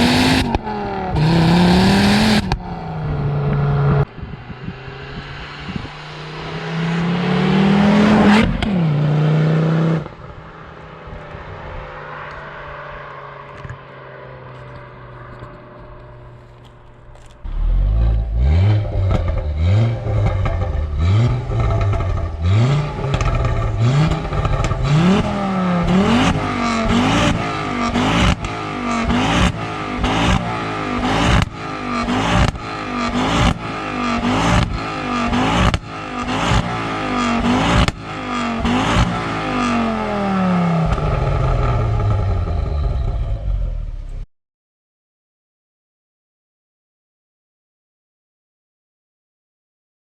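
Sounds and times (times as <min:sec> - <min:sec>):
car engine revving: 0:00.0 - 0:44.2.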